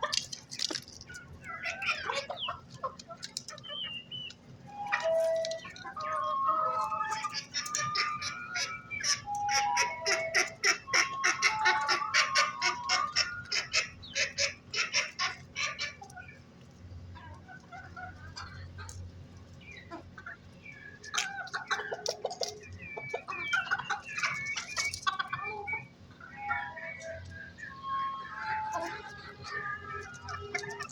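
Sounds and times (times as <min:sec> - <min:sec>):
chickens clucking and calling: 0:00.0 - 0:30.9.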